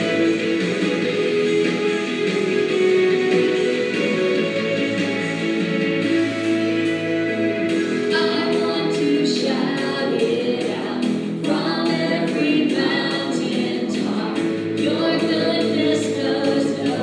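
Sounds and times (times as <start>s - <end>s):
accompaniment with steady beat: 0.0s - 17.0s.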